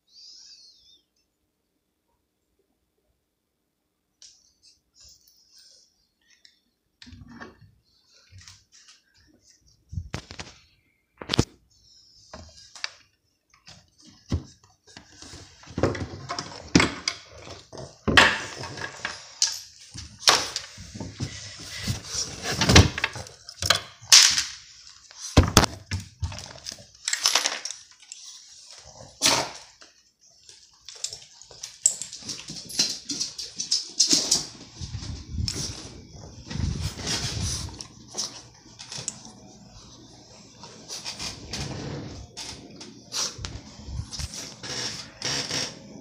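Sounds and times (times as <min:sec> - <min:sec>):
knocks and scuffling on tile floor: 0:07.0 - 0:46.0.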